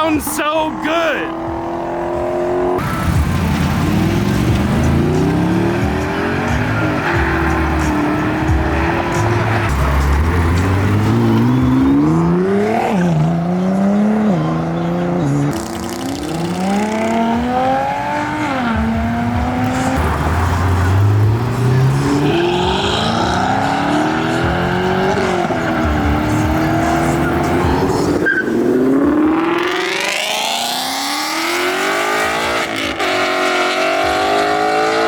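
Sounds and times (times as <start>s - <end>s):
car engines accelerating: 0.0s - 35.0s.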